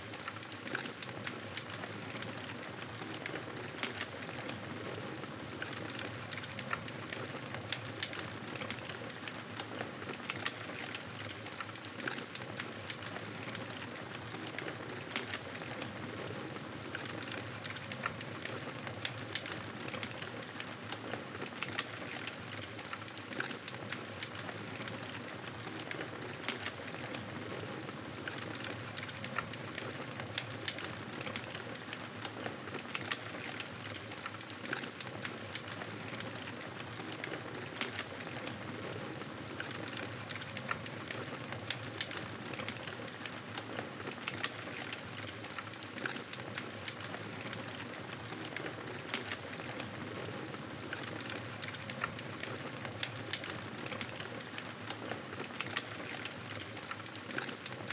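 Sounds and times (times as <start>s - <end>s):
campfire crackling: 10.2s - 57.9s.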